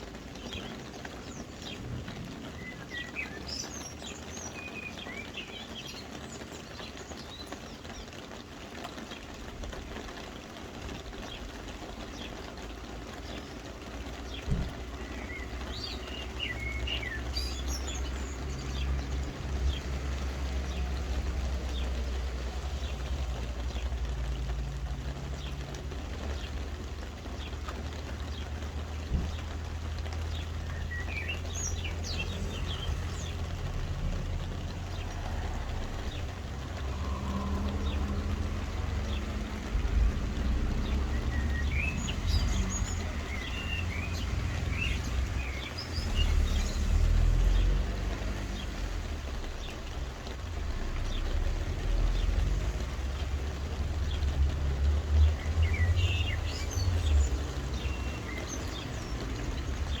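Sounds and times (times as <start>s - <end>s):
small birds chirping: 0.0s - 60.0s
soft rain falling: 0.0s - 60.0s.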